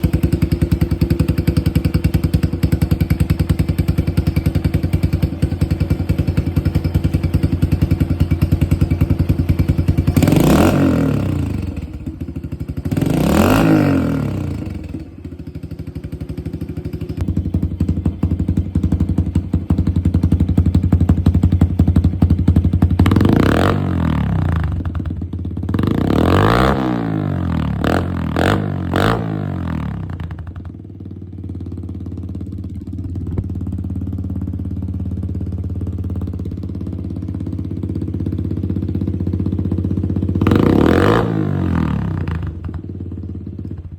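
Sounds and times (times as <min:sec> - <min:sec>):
motorbike engine idling and revving: 0:00.0 - 0:43.9.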